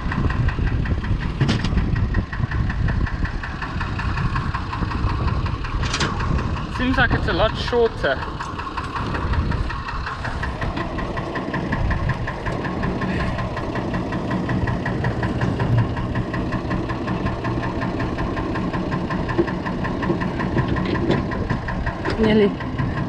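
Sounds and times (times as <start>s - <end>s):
diesel tractor engine idling: 0.0s - 23.0s.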